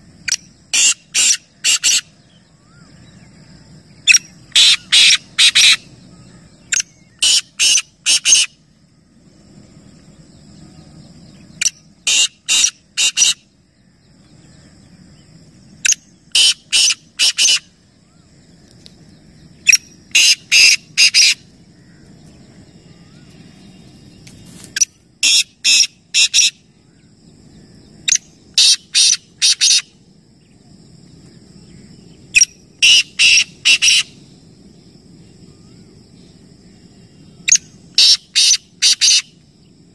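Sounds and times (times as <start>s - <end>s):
francolin calling: 0.0s - 9.0s, 9.7s - 39.5s.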